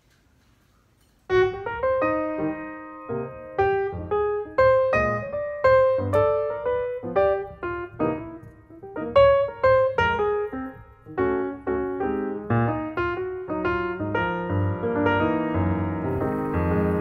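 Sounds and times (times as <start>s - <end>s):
piano music: 1.3s - 17.0s.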